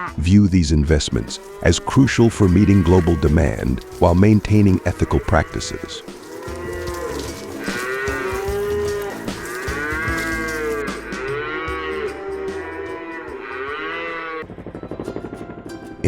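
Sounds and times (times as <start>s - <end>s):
cattle mooing: 1.0s - 14.4s.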